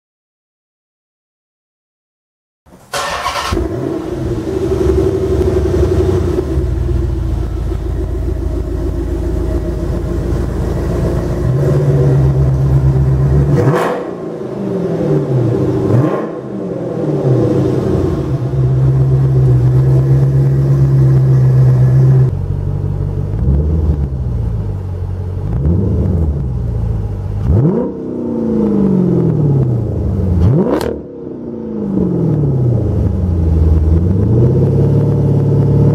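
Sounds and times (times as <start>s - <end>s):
car engine idling and revving: 2.7s - 35.9s.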